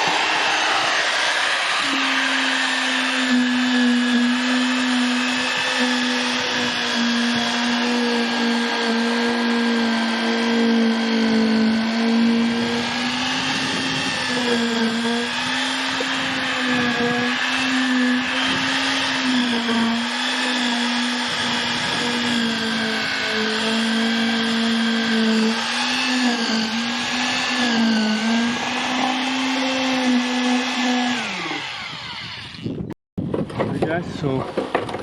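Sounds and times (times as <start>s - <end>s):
cement mixer motor humming: 0.0s - 35.0s.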